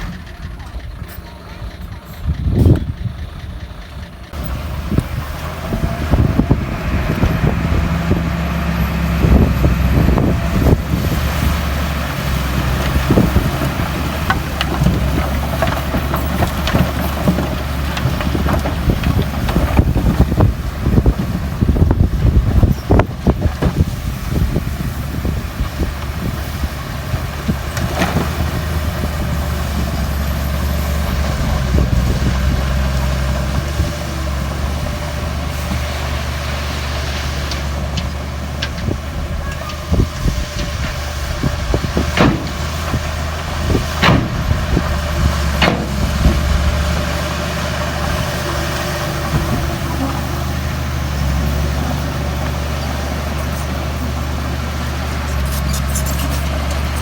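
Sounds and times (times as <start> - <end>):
bulldozer engine hum: 0.0 - 57.0.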